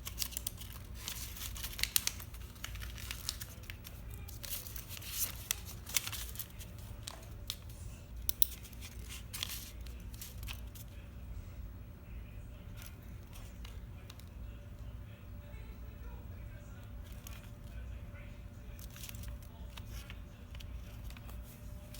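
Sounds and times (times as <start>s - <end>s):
paper crinkling and creasing: 0.0s - 11.0s, 12.7s - 14.4s, 16.9s - 21.9s
steady low hum: 0.0s - 21.9s.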